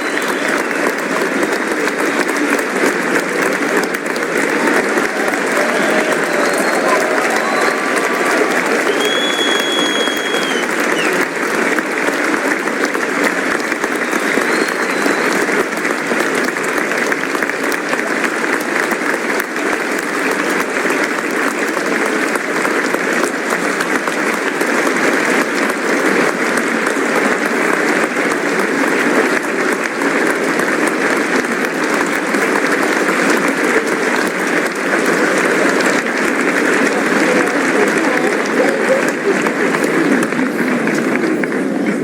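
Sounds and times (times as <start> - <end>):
audience applause: 0.0 - 42.0.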